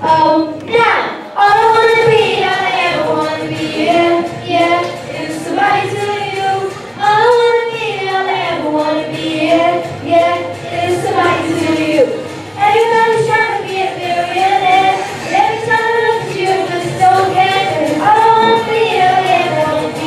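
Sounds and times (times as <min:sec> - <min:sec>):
girls singing into microphones: 0:00.0 - 0:20.0.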